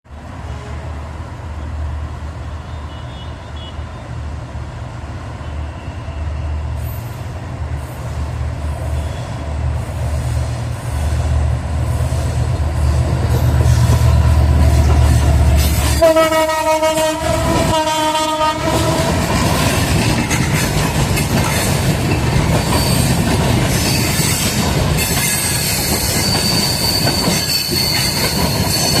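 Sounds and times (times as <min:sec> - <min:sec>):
diesel locomotive engine rumble: 0:00.1 - 0:29.0.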